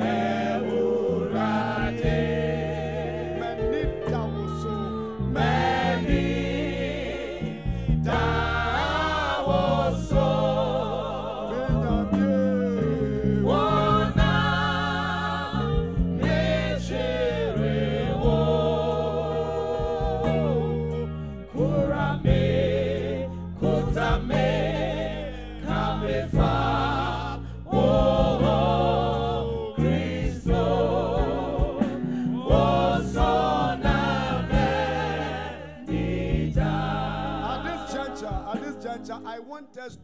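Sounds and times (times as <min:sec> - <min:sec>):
voices singing with vibrato: 0:00.0 - 0:39.2
keyboard and bass chords: 0:00.0 - 0:40.0.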